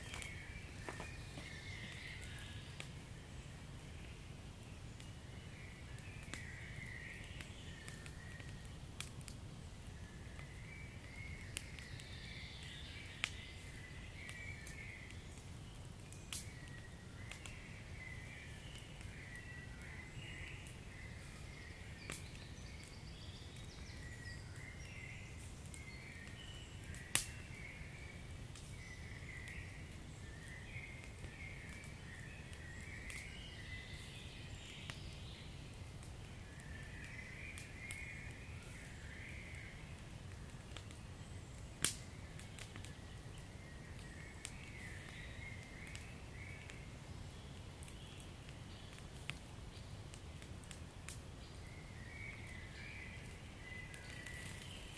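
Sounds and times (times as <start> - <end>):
low fire rumble: 0.0 - 54.9
wood fire crackling and popping: 0.0 - 54.9.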